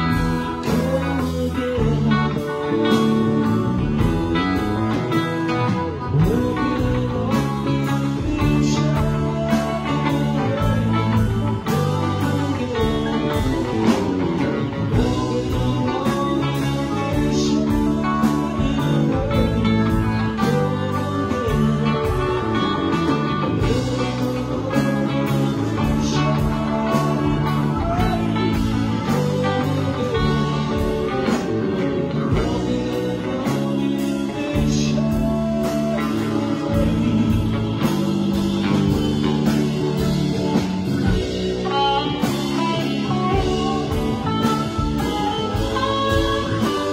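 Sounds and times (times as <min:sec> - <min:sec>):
bass guitar: 0:00.0 - 0:46.9
electric guitar: 0:00.0 - 0:46.9
keyboard: 0:00.0 - 0:46.9.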